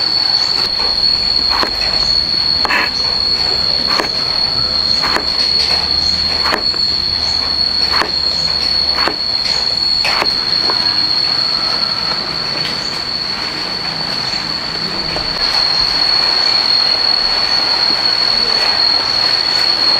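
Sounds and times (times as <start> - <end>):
high-pitched insect drone: 0.0 - 19.9.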